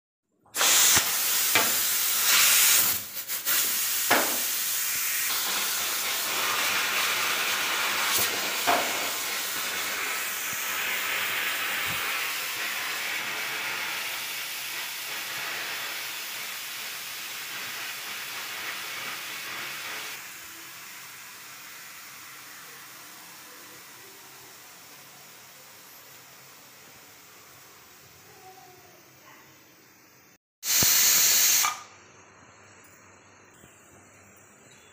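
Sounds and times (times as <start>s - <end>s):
pressure cooker steam hiss: 0.4s - 34.9s.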